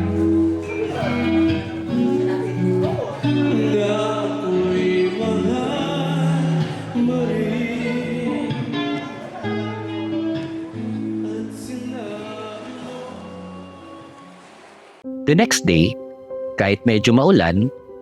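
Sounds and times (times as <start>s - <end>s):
person singing: 0.0s - 14.3s, 15.3s - 16.0s
guitar: 0.0s - 18.0s.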